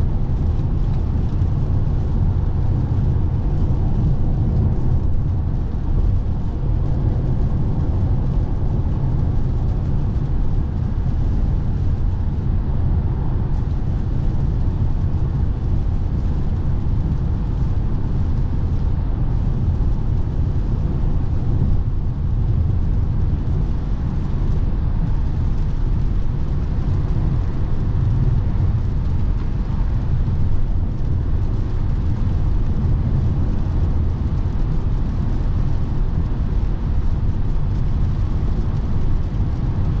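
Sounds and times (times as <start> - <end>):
car cabin road and wind noise: 0.0 - 40.0.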